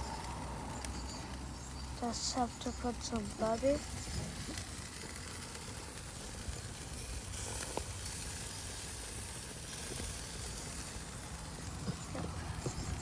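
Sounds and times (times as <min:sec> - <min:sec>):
corn sizzling on a grill: 0:00.0 - 0:13.0.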